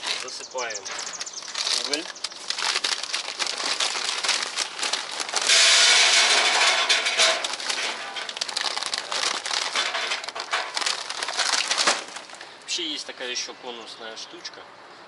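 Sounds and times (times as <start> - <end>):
charcoal briquettes clattering: 0.0 - 12.8.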